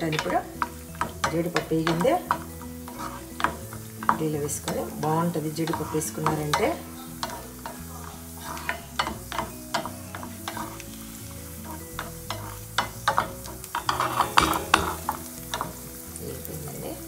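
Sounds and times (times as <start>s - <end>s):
spatula scraping pan: 0.0s - 16.0s
nuts sizzling in pan: 0.0s - 17.0s.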